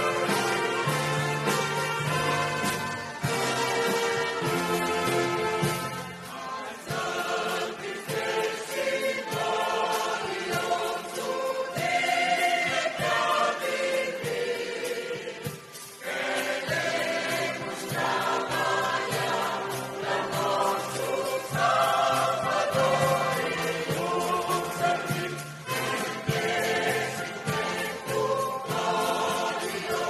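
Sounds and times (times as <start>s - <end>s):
choir singing gospel song: 0.0s - 30.0s.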